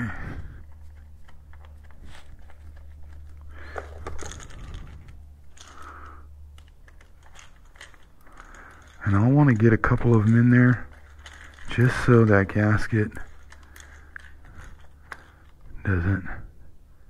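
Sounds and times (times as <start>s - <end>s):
low steady hum: 0.0s - 17.0s
small metal screws clicking: 0.7s - 15.7s.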